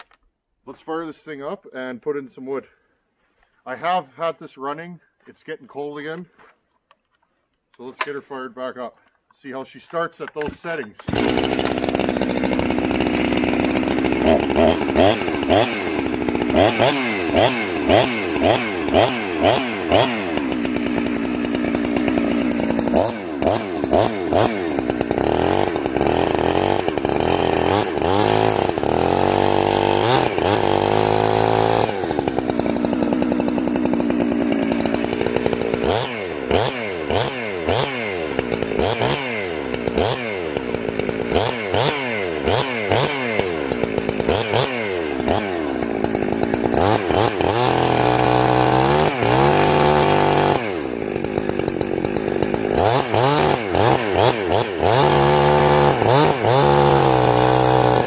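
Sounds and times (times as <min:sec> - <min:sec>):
chainsaw revving and idling: 0:09.4 - 0:58.0.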